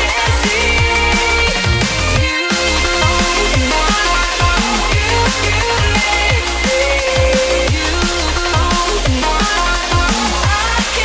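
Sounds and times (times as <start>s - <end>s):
synth melody: 0.0s - 9.0s
kick drums dropping in pitch: 0.2s - 10.6s.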